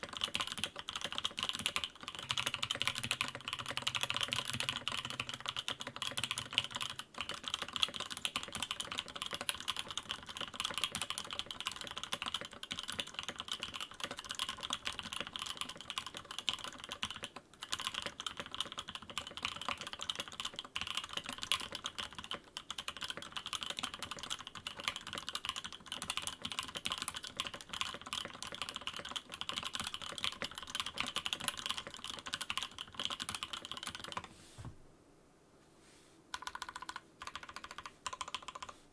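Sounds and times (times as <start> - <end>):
mechanical keyboard typing: 0.0 - 34.3, 36.3 - 38.8.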